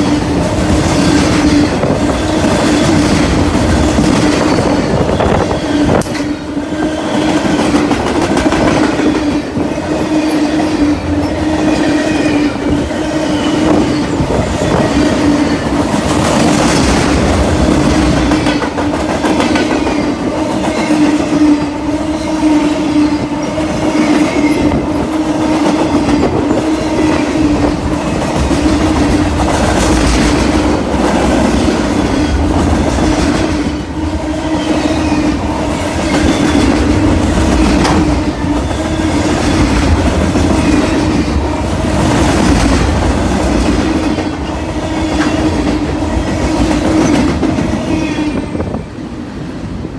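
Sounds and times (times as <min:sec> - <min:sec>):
train wheels clattering: 0:00.0 - 0:48.8
train rumble and hum: 0:00.0 - 0:49.9.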